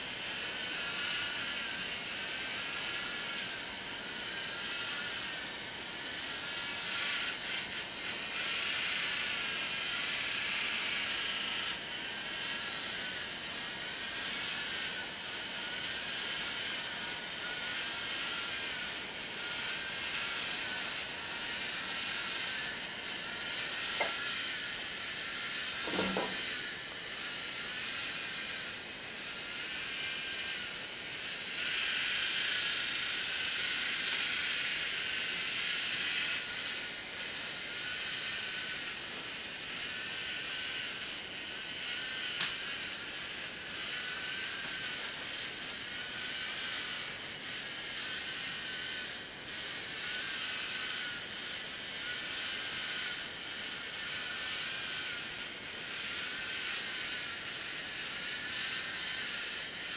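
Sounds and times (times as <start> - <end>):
robot servo motors whining: 0.2 - 59.9.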